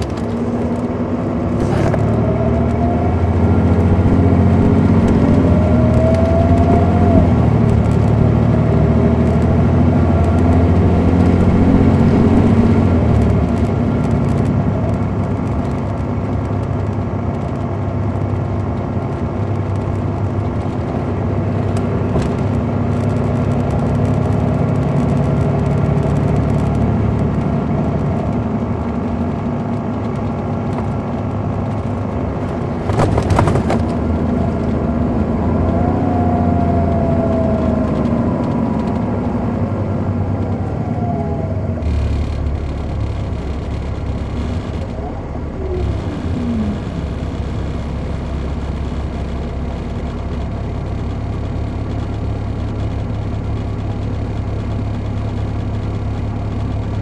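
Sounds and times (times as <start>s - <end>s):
bus diesel engine accelerating: 0.0s - 57.0s.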